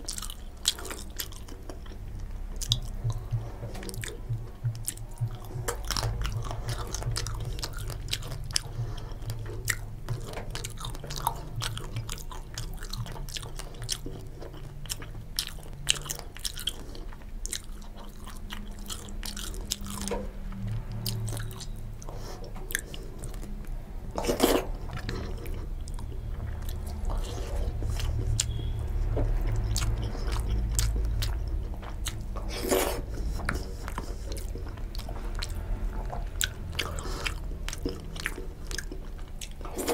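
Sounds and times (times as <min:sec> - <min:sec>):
chewing and lip smacks: 0:00.0 - 0:39.9.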